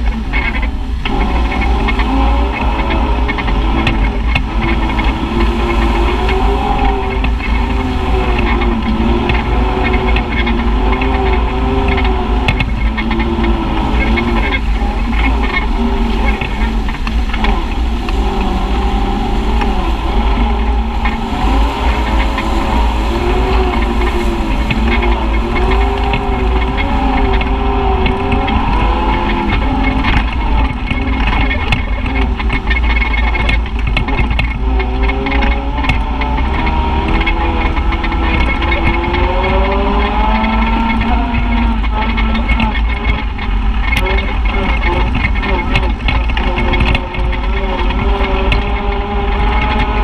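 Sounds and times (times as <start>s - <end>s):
knocks and rattles: 0.0s - 50.0s
utility vehicle engine running: 0.0s - 50.0s.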